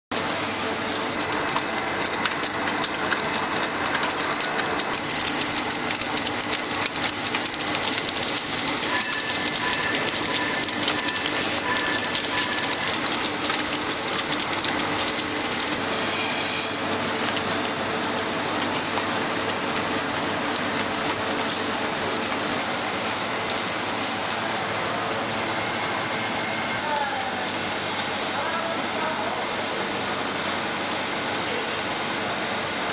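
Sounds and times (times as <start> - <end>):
crackling patter of ice: 0.1 - 32.9
ice machine running: 0.1 - 32.9.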